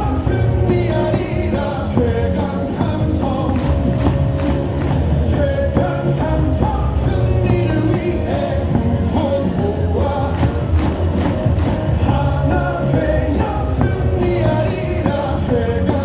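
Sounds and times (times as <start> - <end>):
loud amplified music: 0.0 - 16.0
rhythmic clapping: 0.0 - 16.0
stadium crowd singing: 0.0 - 16.0.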